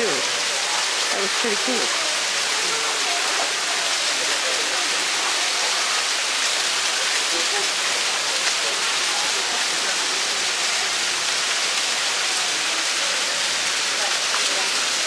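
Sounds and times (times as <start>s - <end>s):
faint voices: 0.0s - 15.0s
rushing water hiss: 0.0s - 15.0s.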